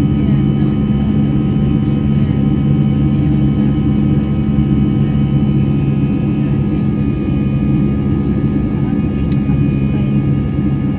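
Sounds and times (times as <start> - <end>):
jet engine drone in cabin: 0.0 - 10.9.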